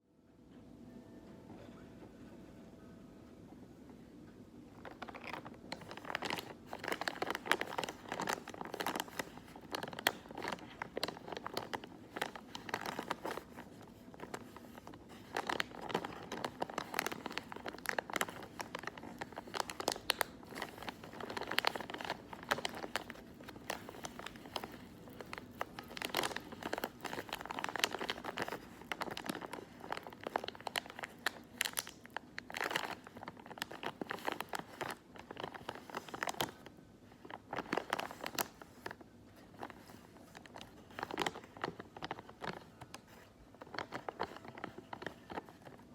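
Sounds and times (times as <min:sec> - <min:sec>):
hands crumpling crinkly material: 0:04.8 - 0:45.9.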